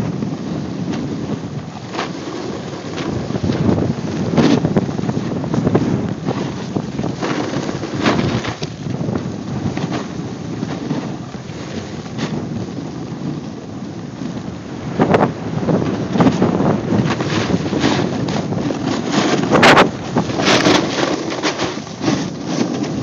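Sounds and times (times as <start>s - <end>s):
snowboard scraping on snow: 0.0s - 23.0s
wind on microphone: 0.0s - 23.0s.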